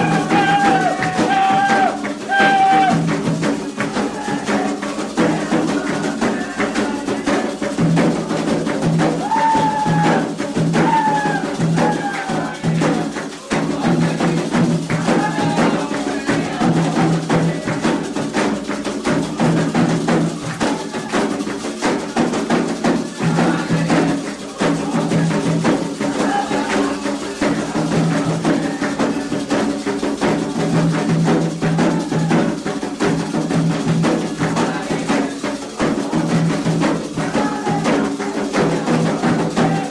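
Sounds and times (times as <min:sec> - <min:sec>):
hand drums playing rhythm: 0:00.0 - 0:39.9.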